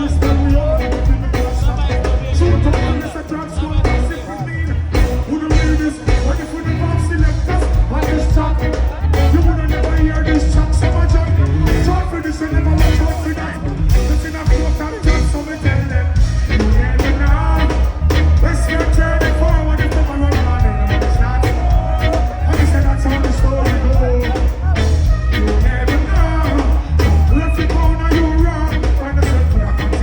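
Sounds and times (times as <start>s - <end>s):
dancehall music over sound system: 0.0s - 30.0s
heavy pulsing bass beat: 0.0s - 30.0s
man singing: 0.0s - 30.0s.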